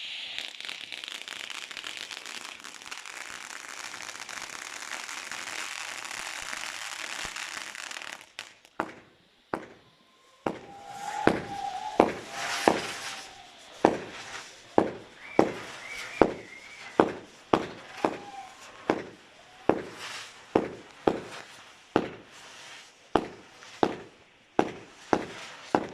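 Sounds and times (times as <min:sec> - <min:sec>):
fireworks bangs: 0:00.0 - 0:25.9
fireworks hissing crackle: 0:00.0 - 0:25.9
fireworks whistling: 0:00.0 - 0:25.9.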